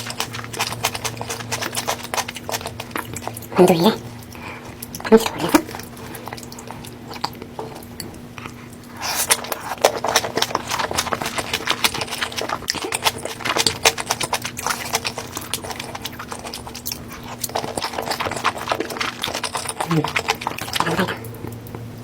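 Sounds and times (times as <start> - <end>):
chewing crunchy food: 0.0 - 22.0
faint steady hum: 0.0 - 22.0.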